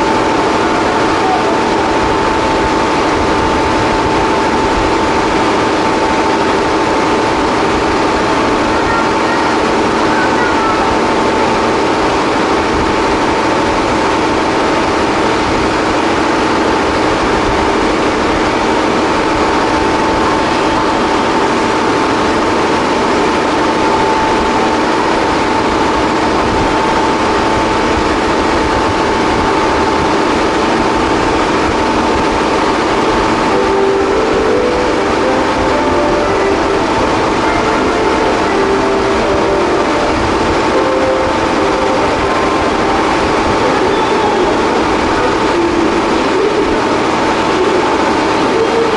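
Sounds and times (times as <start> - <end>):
train rumbling with whine: 0.0 - 48.9.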